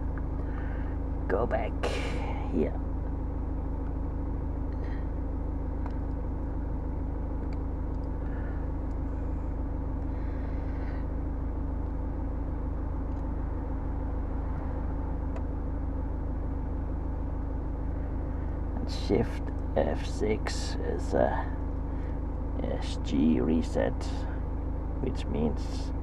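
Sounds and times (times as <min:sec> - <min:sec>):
car cabin hum and rumble: 0:00.0 - 0:26.0.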